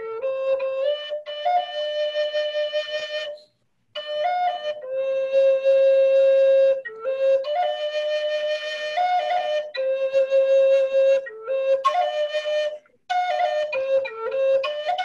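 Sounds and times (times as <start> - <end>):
flute playing slow melody: 0.0 - 15.0.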